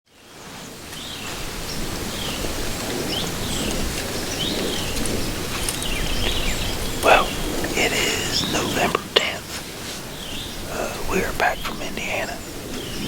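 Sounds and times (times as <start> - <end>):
small birds chirping: 0.1 - 13.0
wind or rustling leaves: 0.1 - 13.0.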